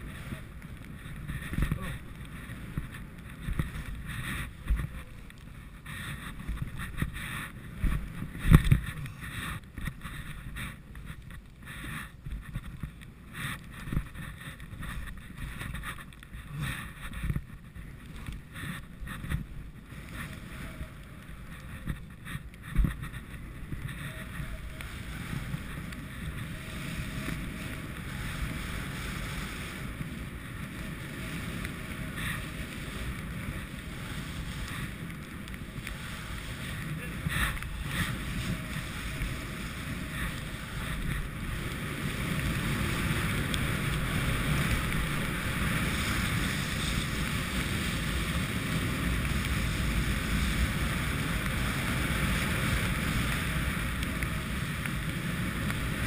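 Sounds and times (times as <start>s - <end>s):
skis rushing over snow: 0.0s - 56.0s
wind buffeting microphone: 0.0s - 56.0s.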